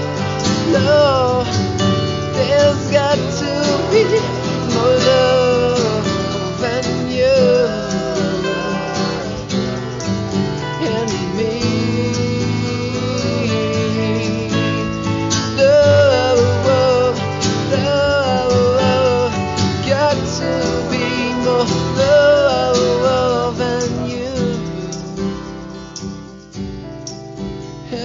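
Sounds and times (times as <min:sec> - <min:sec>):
country song with acoustic guitar: 0:00.0 - 0:28.0.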